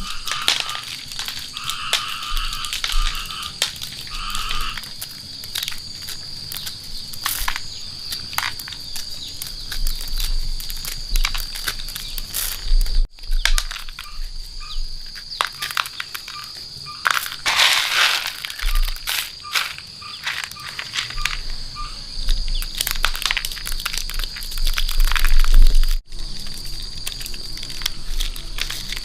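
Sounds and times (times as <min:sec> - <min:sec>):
crackles and rustles: 0:00.0 - 0:29.0
insects trilling: 0:00.0 - 0:29.0.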